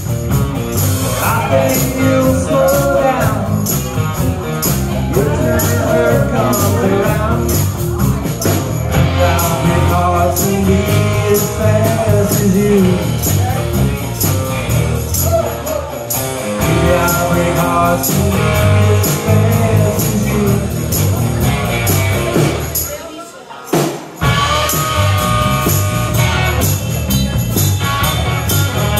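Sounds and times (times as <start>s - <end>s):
live rock band playing: 0.0s - 23.0s, 23.7s - 28.9s.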